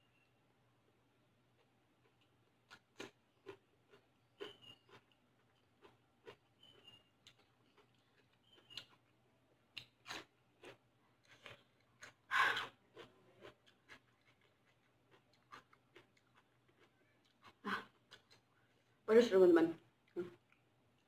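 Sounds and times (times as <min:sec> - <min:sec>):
person chewing food: 0:01.4 - 0:18.8, 0:19.9 - 0:21.0.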